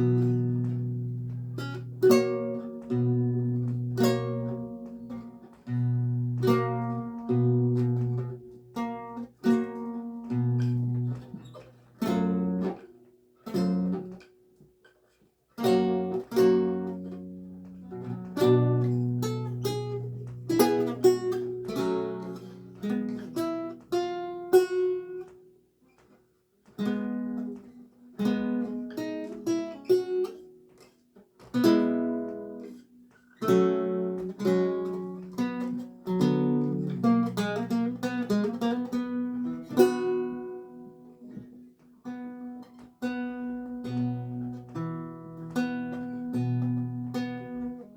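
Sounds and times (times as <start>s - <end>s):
solo lute: 0.0s - 47.9s.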